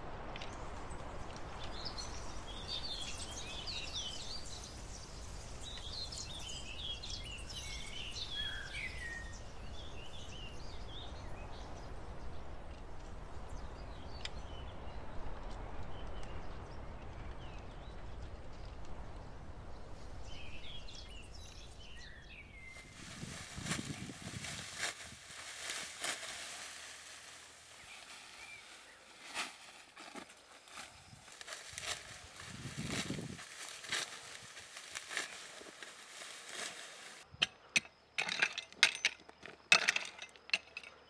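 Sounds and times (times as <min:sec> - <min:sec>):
small birds singing: 0:00.4 - 0:41.0.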